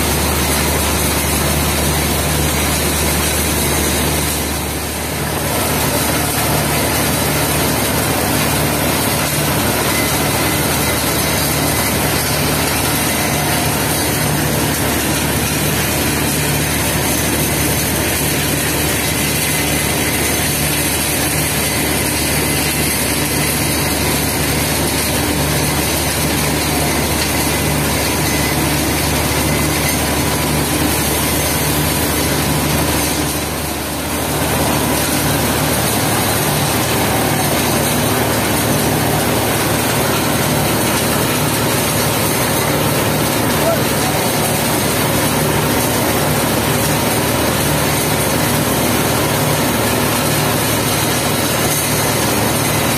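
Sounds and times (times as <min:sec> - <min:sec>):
truck engine idling: 0:00.0 - 0:22.4, 0:23.0 - 0:52.9.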